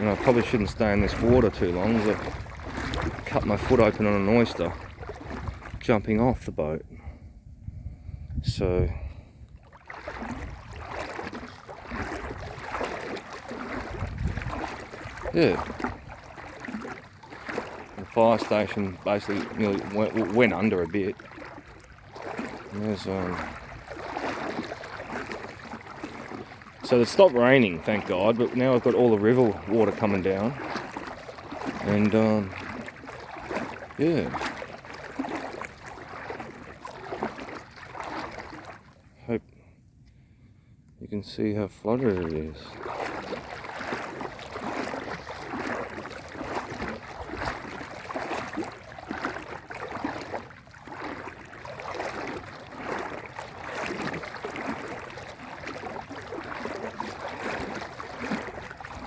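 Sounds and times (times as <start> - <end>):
water sloshing around wading legs: 0.0 - 40.2, 41.1 - 59.0.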